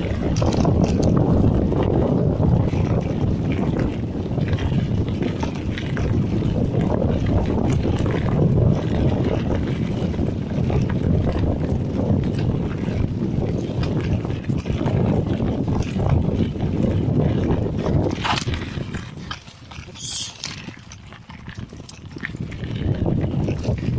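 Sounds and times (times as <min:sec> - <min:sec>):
bike clicks and rattles: 0:00.0 - 0:23.9
wind on microphone: 0:00.0 - 0:23.9.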